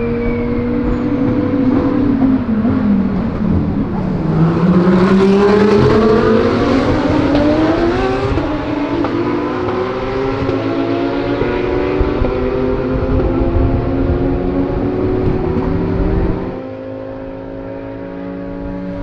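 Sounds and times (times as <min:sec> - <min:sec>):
race car engines at full throttle: 0:00.0 - 0:19.0.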